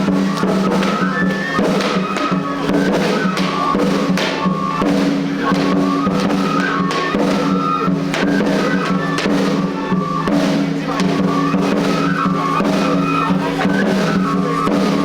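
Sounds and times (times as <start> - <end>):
drum beats: 0.0 - 15.0.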